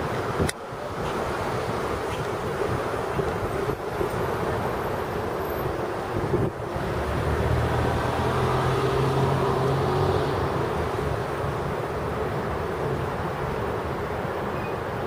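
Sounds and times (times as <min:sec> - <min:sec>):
city traffic noise: 0:00.0 - 0:15.0
vehicle engine hum: 0:00.0 - 0:15.0.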